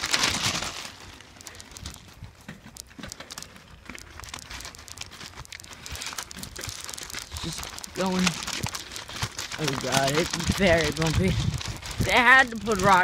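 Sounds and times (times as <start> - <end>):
loud rustle: 0.0 - 13.0.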